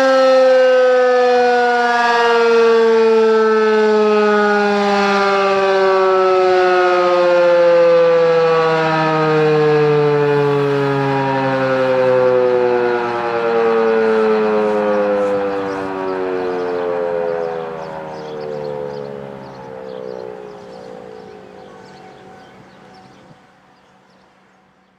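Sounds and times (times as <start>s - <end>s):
warning siren winding down: 0.0s - 23.6s.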